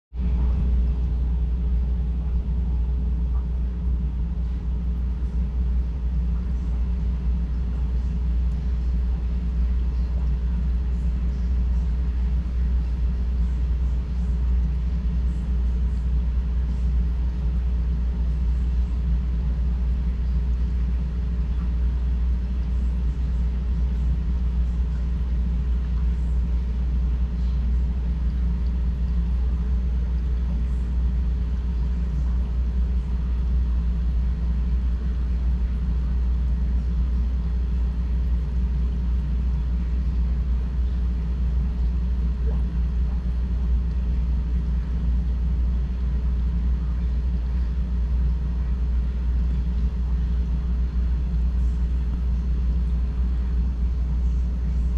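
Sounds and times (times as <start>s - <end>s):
aquarium pump humming: 0.2s - 54.9s.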